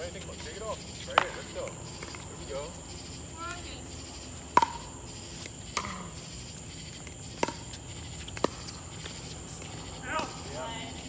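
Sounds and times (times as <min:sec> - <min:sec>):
high insect chirring: 0:00.0 - 0:11.0.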